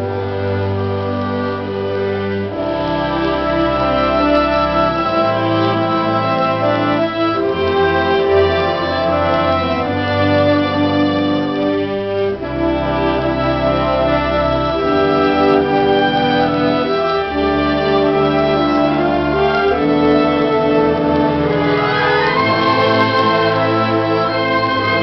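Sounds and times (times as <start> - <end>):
concert wind band playing chords: 0.0 - 25.0.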